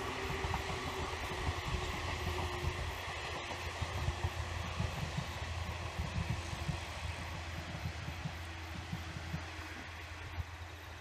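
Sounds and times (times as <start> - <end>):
electric train rumbling on track: 0.0 - 11.0.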